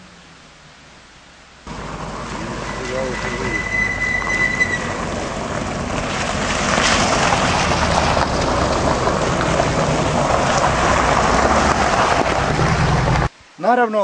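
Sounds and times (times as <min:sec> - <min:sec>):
jeep engine and tyres on gravel: 0:00.2 - 0:13.3
car passing on wet gravel: 0:01.6 - 0:13.3.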